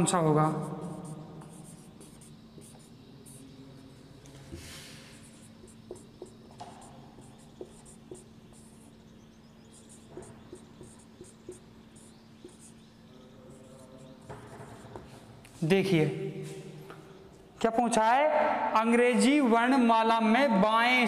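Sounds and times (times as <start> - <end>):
marker pen on whiteboard: 0.0 - 17.6.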